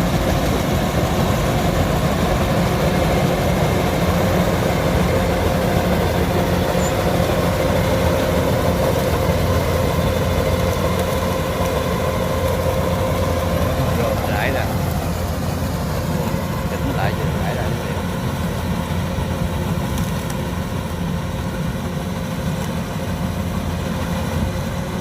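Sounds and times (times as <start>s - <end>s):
combine harvester diesel engine: 0.0s - 25.0s.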